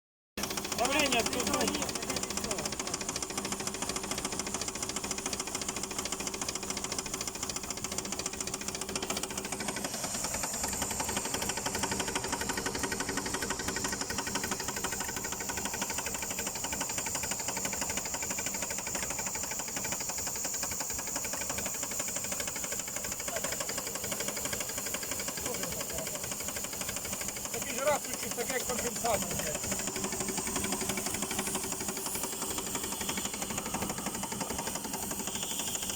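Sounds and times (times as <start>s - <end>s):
engine running: 0.4s - 35.9s
fast ticking engine knock: 0.4s - 35.9s.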